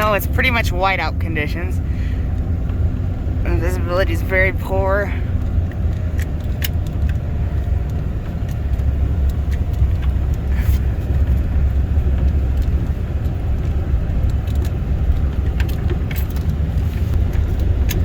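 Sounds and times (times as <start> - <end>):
truck engine and tyres rumbling: 0.0 - 18.0
light clicks and rattles: 1.3 - 18.0.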